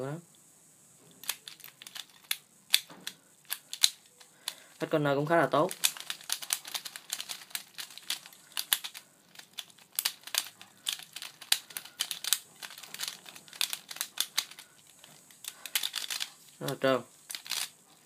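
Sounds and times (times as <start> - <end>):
plastic puzzle cube clacking: 1.2 - 4.6, 5.6 - 17.8.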